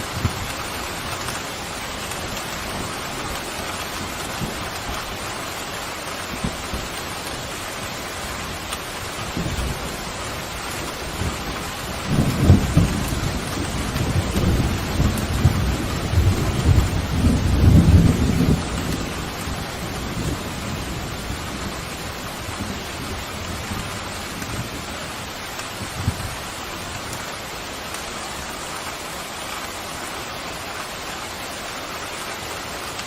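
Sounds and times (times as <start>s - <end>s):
thunder rumbling: 0.0s - 27.3s
heavy rain: 0.0s - 33.0s.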